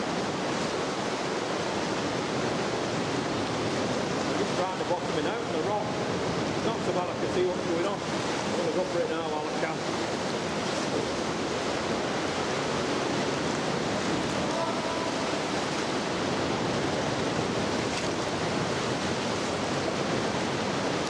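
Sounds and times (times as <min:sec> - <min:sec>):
sea water churning among rocks: 0:00.0 - 0:21.0.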